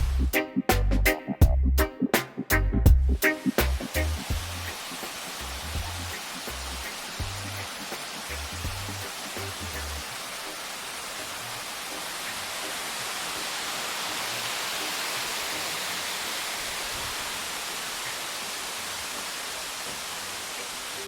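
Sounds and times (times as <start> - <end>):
waterfall rushing: 3.2 - 21.0.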